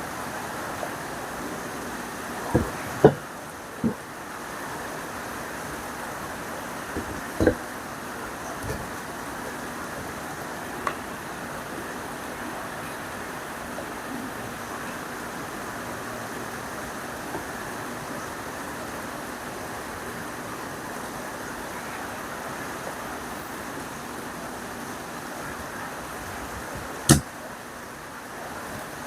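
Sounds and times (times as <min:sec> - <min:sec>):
heavy rain hissing: 0:00.0 - 0:29.0.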